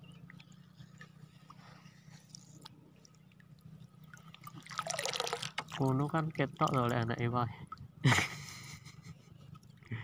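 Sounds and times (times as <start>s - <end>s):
water lapping: 0.0s - 10.0s.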